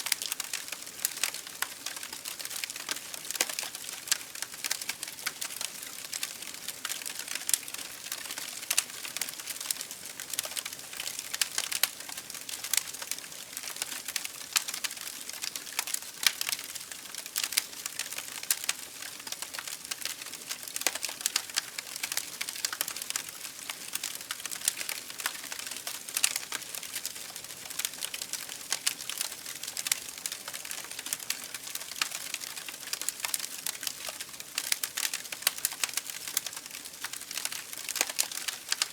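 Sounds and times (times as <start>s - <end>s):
campfire crackling and popping: 0.1s - 38.9s.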